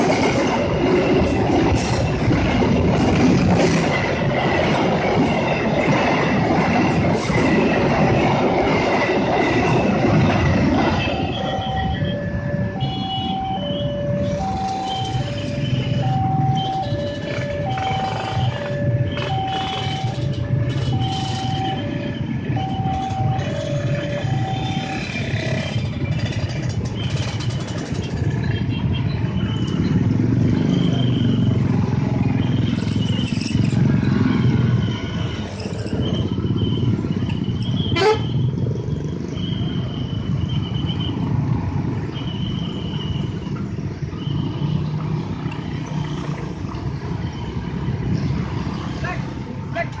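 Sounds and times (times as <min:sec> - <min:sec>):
motorcycle and car engines rumbling: 0:00.0 - 0:50.0.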